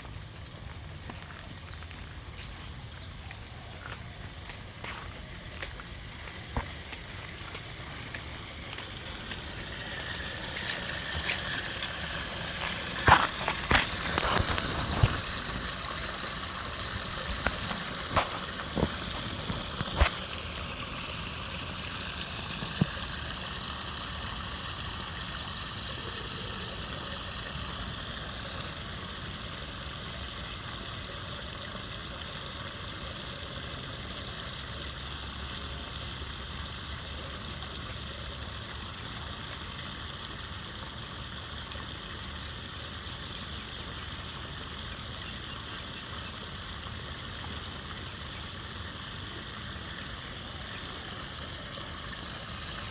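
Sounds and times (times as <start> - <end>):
water rushing into drain: 4.4 - 52.9.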